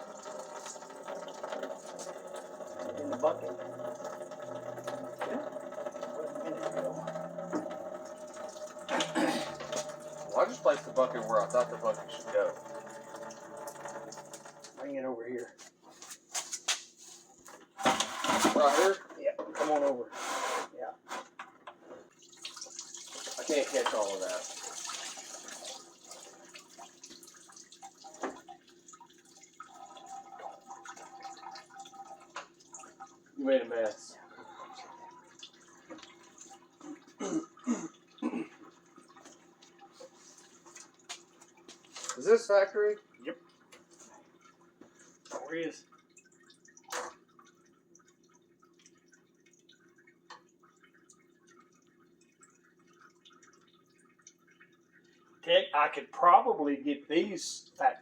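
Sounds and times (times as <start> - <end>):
coolant dripping into bucket: 0.0 - 15.5, 21.6 - 56.1.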